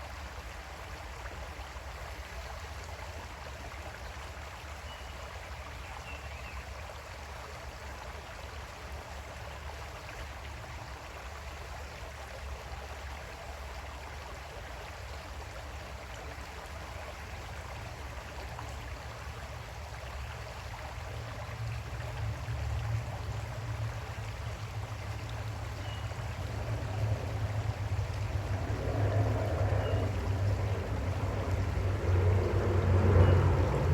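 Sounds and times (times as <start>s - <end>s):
creek water flowing over stones: 0.0s - 33.9s.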